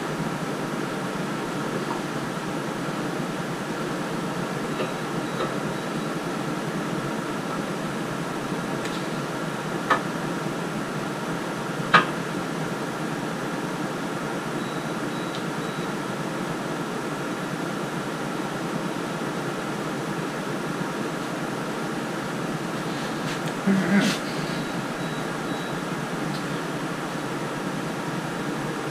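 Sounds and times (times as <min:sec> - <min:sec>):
fan-like hum: 0:00.0 - 0:28.9.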